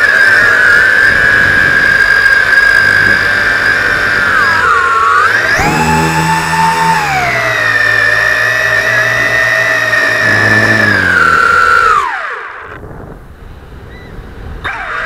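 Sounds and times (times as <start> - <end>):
drone motors whining: 0.0 - 13.0, 14.6 - 15.0.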